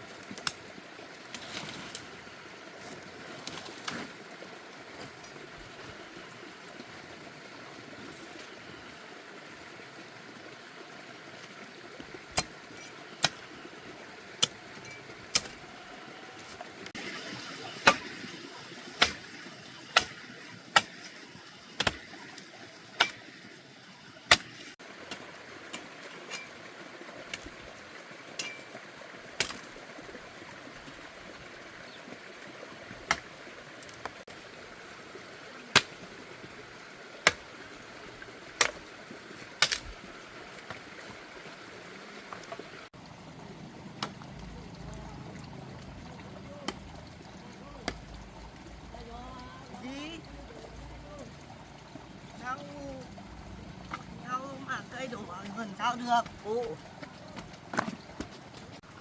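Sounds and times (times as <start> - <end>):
steady outdoor hiss: 0.0 - 59.0.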